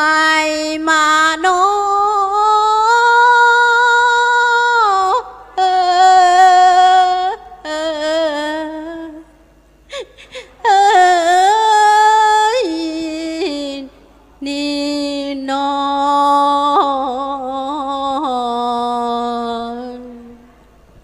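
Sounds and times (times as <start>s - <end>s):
woman singing unaccompanied: 0.0s - 20.5s.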